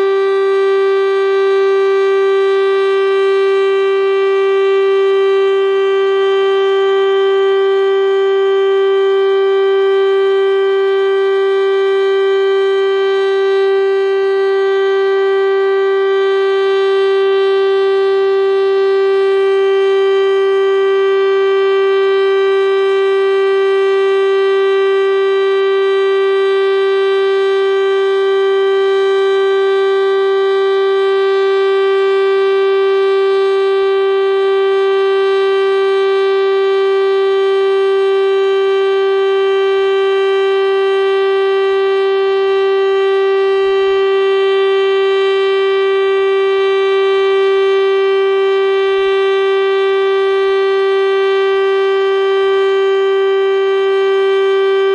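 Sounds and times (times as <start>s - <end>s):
civil defense siren steady tone: 0.0s - 54.9s.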